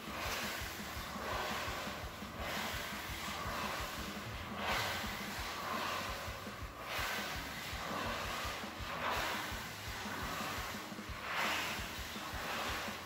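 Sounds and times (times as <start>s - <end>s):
hand tool scraping wet coating: 0.0s - 13.0s.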